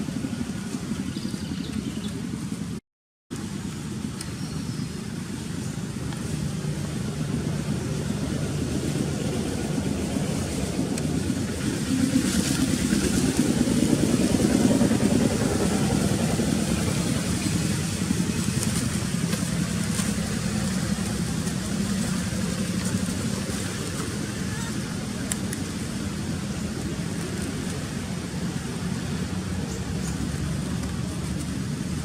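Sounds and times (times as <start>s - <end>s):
engine running with low rumble: 0.0s - 32.0s.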